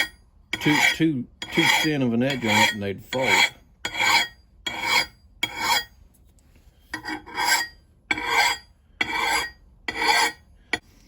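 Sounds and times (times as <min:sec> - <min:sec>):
file rasping on steel axe edge: 0:00.0 - 0:05.9, 0:06.9 - 0:10.8.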